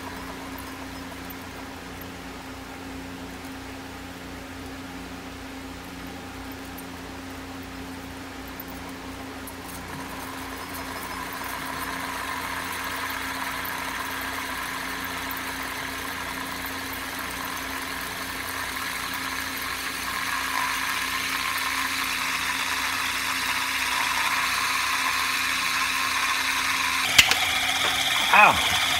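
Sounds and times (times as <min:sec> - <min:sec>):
magnetic stirrer hum: 0:00.0 - 0:03.5, 0:08.6 - 0:28.9
fidget spinner whirring: 0:00.0 - 0:03.7, 0:06.4 - 0:28.9.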